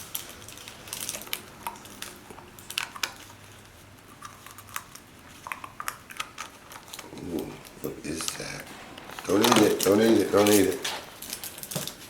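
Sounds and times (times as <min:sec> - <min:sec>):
plastic egg clicking and scraping: 0:00.0 - 0:12.0.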